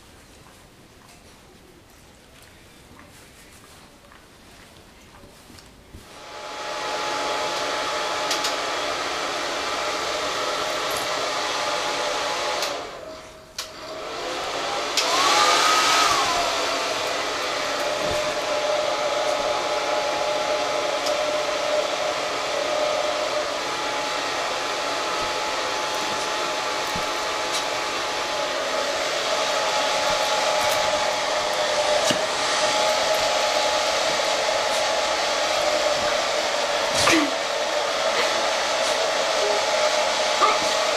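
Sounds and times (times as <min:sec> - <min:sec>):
hair dryer running: 0:06.1 - 0:40.9.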